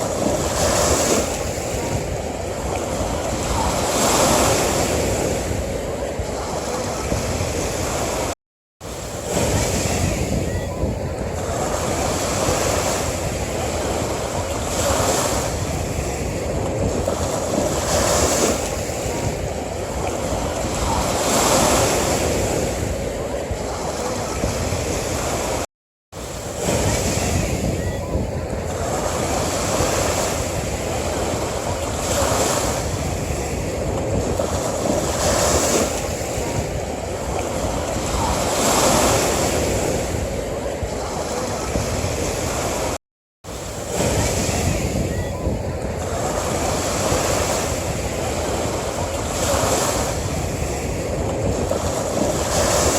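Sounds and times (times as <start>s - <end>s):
ocean surf washing onto beach: 0.0s - 52.9s.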